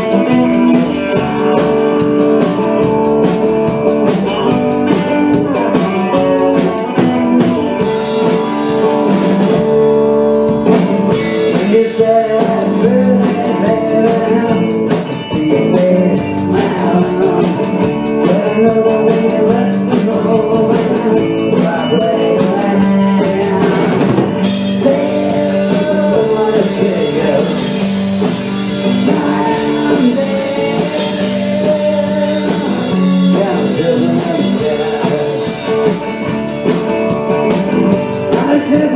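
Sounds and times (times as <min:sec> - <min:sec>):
person singing: 0:00.0 - 0:09.0, 0:11.1 - 0:38.9
live blues-rock band: 0:00.0 - 0:38.9.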